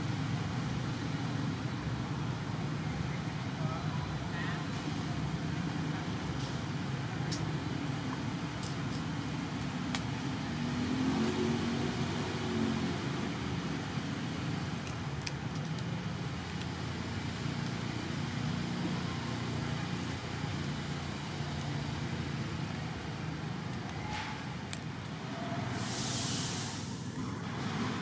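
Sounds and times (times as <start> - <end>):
low rumbling background noise: 0.0 - 28.0.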